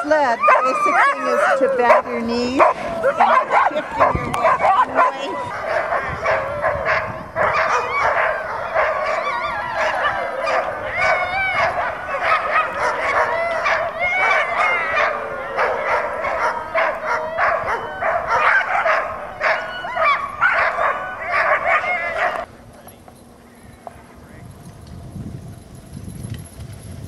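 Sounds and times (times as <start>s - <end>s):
sled dogs barking and yelping: 0.0s - 22.5s.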